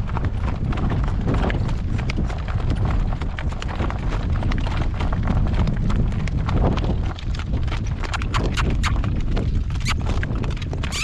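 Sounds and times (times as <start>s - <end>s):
cart rumble: 0.0s - 11.0s
horse hooves clip-clopping on road: 0.0s - 11.0s.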